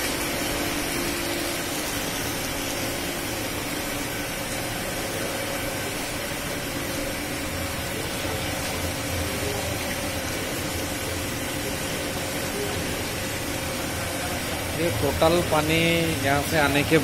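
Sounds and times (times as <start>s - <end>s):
water pouring into tank: 0.0s - 17.0s.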